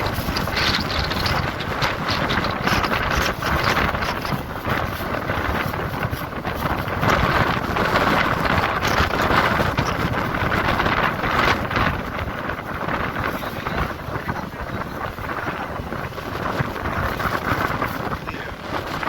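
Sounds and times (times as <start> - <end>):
surf washing: 0.0 - 19.0
wind buffeting microphone: 0.0 - 19.0.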